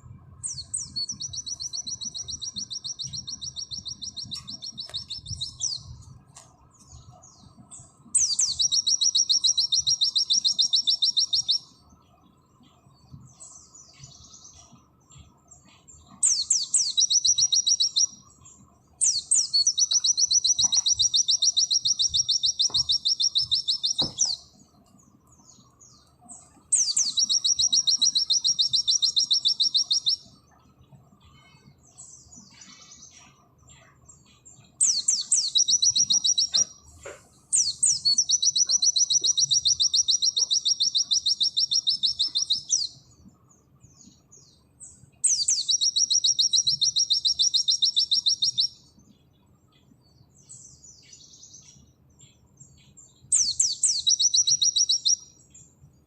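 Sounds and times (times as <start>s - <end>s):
soft bird calls and chips: 0.0s - 55.8s.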